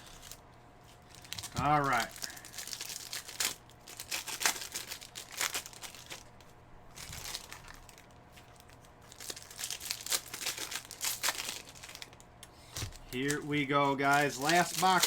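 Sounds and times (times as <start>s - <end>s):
wrappers crinkling and tearing: 0.0s - 15.0s.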